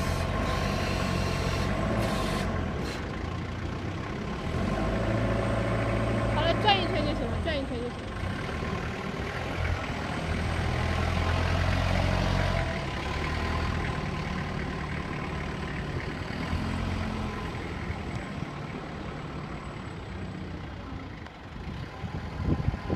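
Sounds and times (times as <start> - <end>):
forklift engine running: 0.0 - 22.9.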